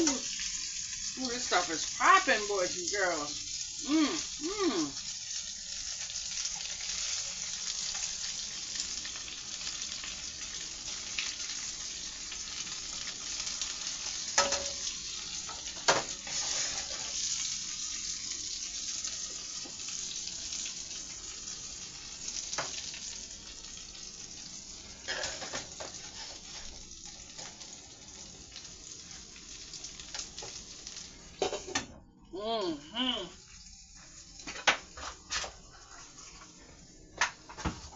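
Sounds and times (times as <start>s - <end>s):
food sizzling in a frying pan: 0.0s - 37.9s.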